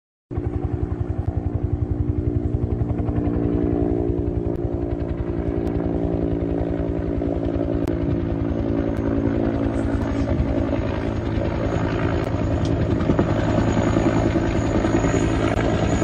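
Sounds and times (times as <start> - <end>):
helicopter engine tone: 0.3 - 16.0
helicopter rotor beating: 0.3 - 16.0.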